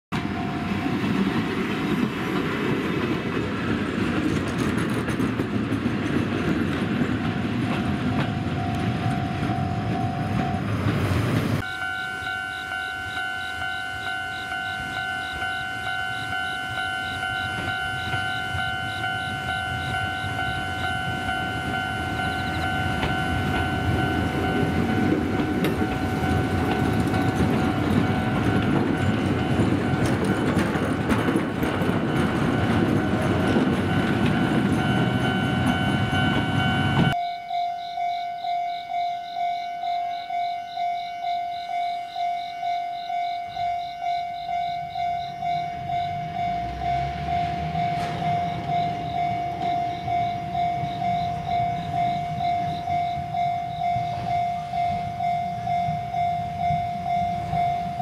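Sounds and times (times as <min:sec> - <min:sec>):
electric train rolling over rails: 0:00.2 - 0:37.2, 0:38.4 - 0:58.0
level-crossing alarm ringing: 0:07.1 - 0:10.7, 0:11.6 - 0:58.0.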